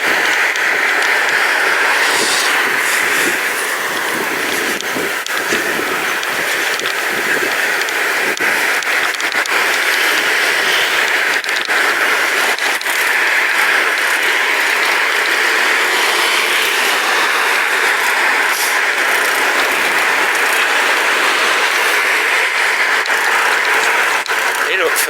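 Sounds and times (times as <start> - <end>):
bicycle clicks and rattles: 0.0 - 25.0
bicycle rushing noise: 0.0 - 25.0.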